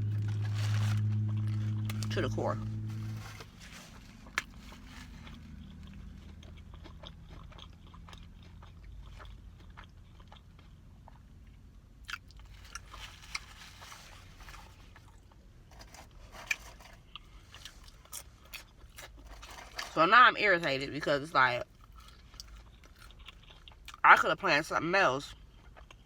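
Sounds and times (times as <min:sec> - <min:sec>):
sharp crunches of breading: 0:00.0 - 0:20.0, 0:21.6 - 0:24.0
chewing crispy food: 0:00.0 - 0:26.0
faint low hum: 0:00.0 - 0:26.0.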